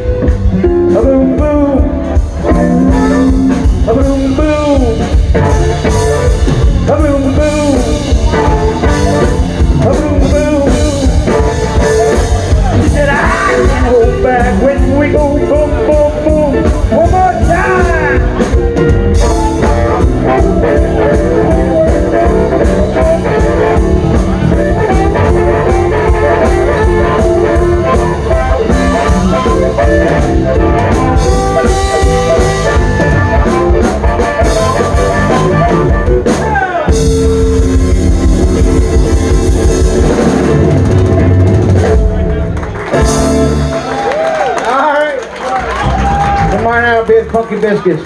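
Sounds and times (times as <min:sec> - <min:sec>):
instrumental blues band: 0:00.0 - 0:46.8.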